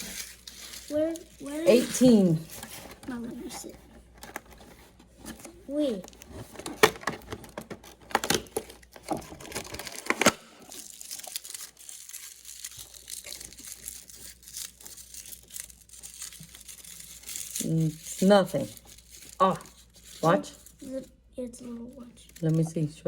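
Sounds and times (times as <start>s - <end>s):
wrapper ripping: 0.0s - 3.4s, 5.9s - 20.9s, 22.2s - 22.6s
wrapper crinkling: 0.0s - 21.2s, 22.0s - 23.0s.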